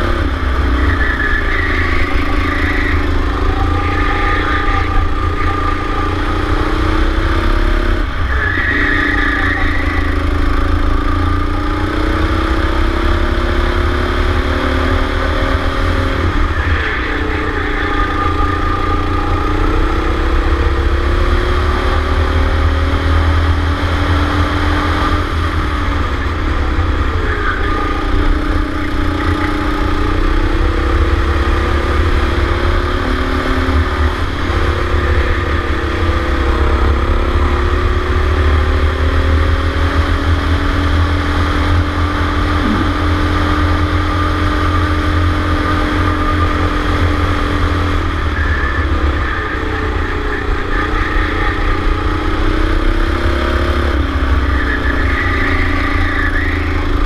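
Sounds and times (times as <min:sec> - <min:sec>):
go-kart engine accelerating: 0:00.0 - 0:57.0.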